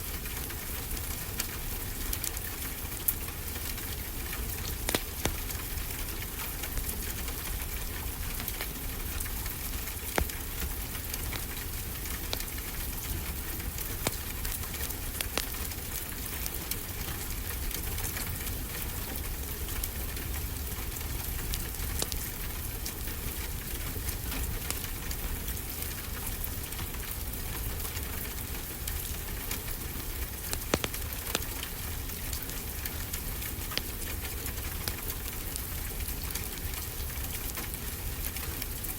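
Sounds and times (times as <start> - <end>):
rain hiss: 0.0 - 38.9
wood fire crackling and popping: 0.0 - 38.9.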